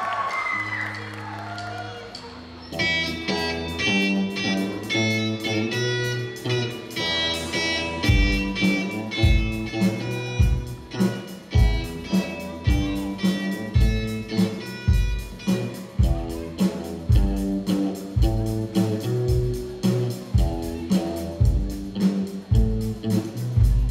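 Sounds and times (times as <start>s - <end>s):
electric guitars playing riff: 1.8s - 23.9s.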